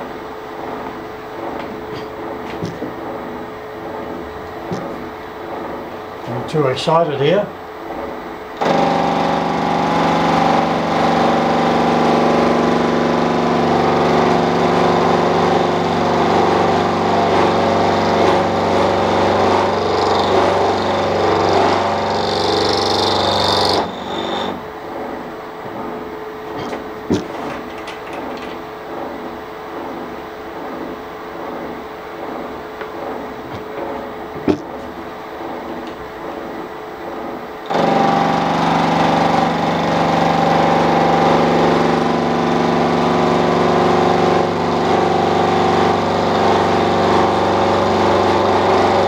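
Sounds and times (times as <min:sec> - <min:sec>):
milling machine running: 0:00.0 - 0:49.0.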